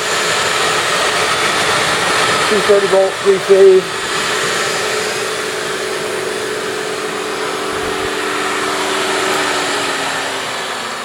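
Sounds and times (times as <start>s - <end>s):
grinder motor humming: 0.0s - 11.0s.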